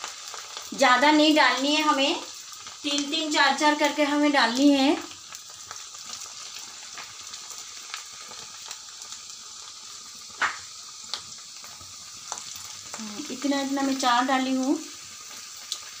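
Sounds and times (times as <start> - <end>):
food deep-frying in hot oil: 0.0 - 16.0.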